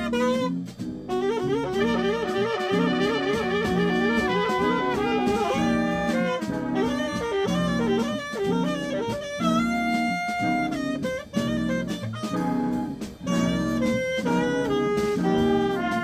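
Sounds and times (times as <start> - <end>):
alto saxophone melody: 0.0 - 16.0
drums: 0.0 - 16.0
electric guitar chords: 0.0 - 16.0
trumpet melody: 0.0 - 16.0
upright bass: 0.0 - 16.0.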